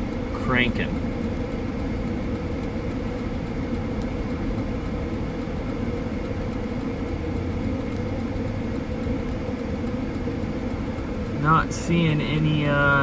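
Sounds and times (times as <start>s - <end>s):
faint even hum: 0.0s - 13.0s.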